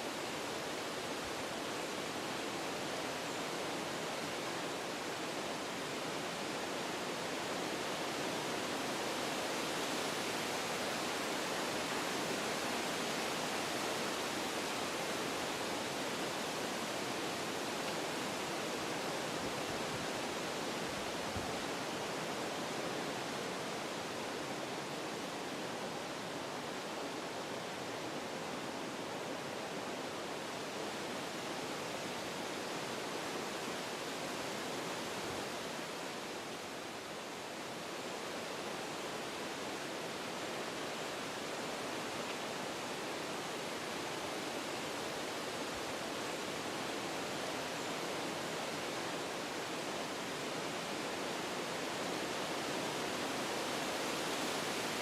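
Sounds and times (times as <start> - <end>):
wind rushing through trees: 0.0 - 55.0.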